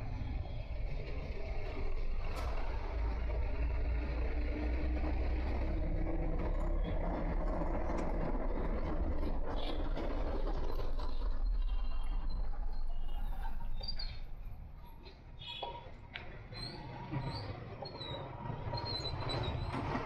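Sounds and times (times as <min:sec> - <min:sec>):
truck engine rumble: 0:00.0 - 0:20.0.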